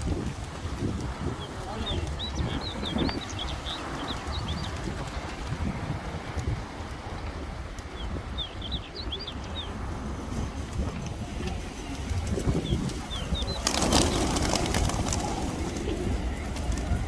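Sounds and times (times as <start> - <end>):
pigeons chirping: 0.0 - 6.0, 7.0 - 17.0
many pigeon wings flapping: 0.0 - 8.0, 9.7 - 17.0.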